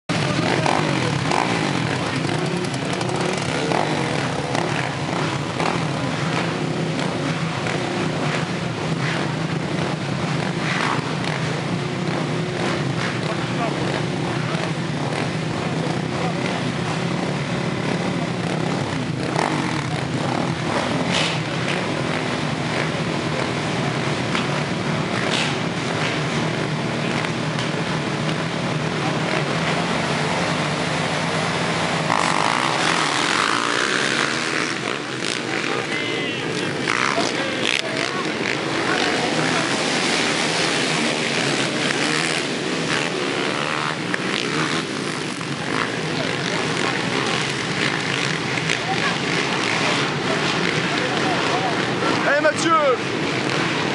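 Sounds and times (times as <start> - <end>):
quad bike engines running: 0.1 - 53.9.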